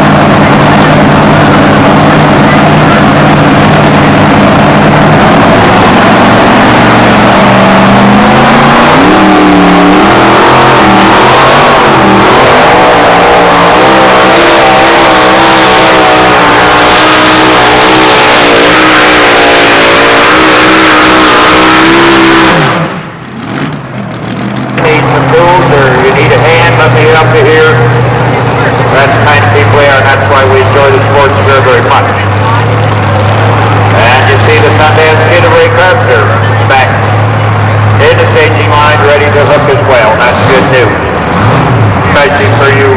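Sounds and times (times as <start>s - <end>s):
truck engine running flat out: 0.0s - 42.9s.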